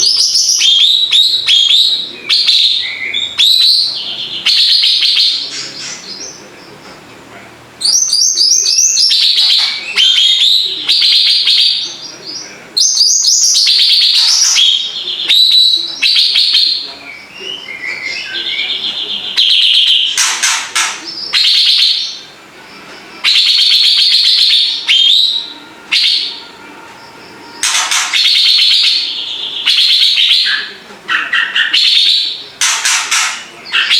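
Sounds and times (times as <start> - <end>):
songbird trilling and warbling: 0.0 - 6.8, 7.8 - 33.9.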